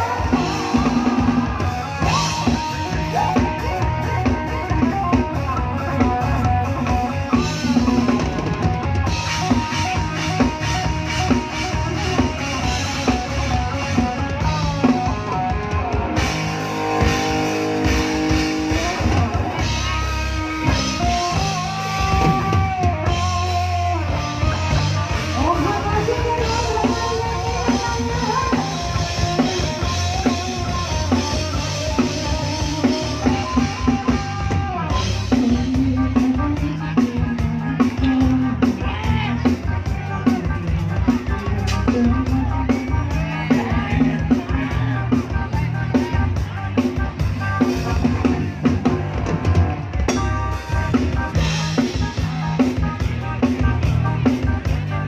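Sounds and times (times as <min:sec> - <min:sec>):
bass guitar: 0:00.0 - 0:55.0
drum kit: 0:00.0 - 0:55.0
melodic lead line: 0:00.0 - 0:55.0.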